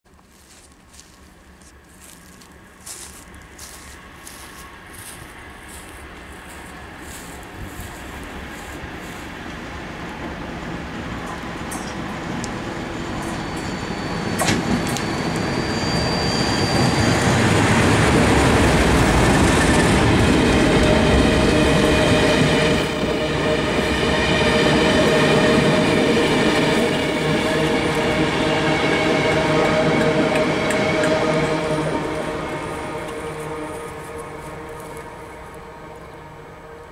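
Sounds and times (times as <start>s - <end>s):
diesel locomotive engine rumble: 0.1s - 36.9s
train wheels rolling: 0.2s - 35.7s
steady multi-tone whine: 0.2s - 36.9s.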